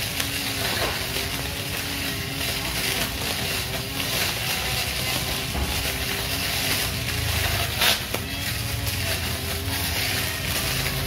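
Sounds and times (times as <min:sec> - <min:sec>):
grass trimmer running: 0:00.0 - 0:11.0.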